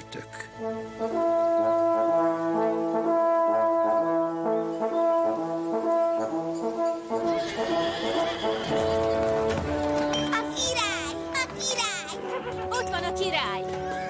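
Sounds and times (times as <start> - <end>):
hunting horns in harmony: 0.5 - 14.0.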